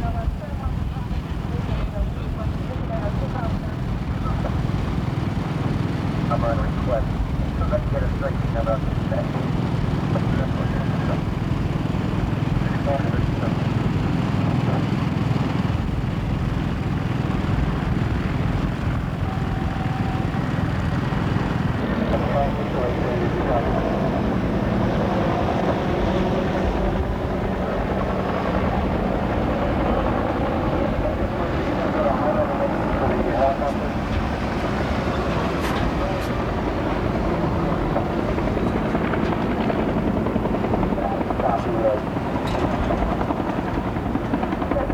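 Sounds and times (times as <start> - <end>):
helicopter rotor flutter: 0.0 - 44.9.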